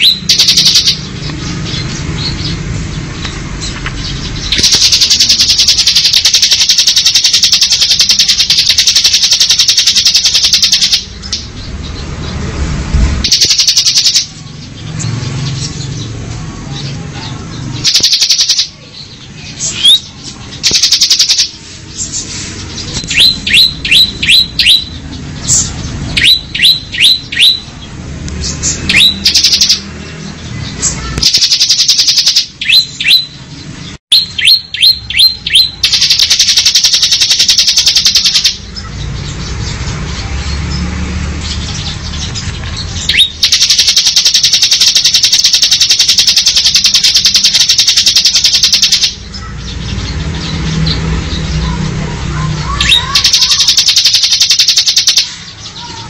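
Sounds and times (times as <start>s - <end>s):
bird singing with buzzing trills: 0.0s - 12.6s, 13.2s - 56.0s.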